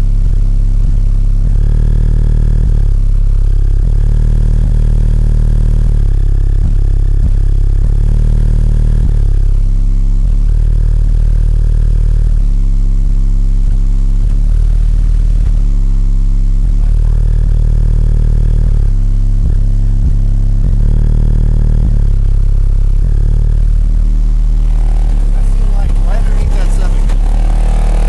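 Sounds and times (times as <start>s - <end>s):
bass-heavy music through subwoofers: 0.0s - 28.0s.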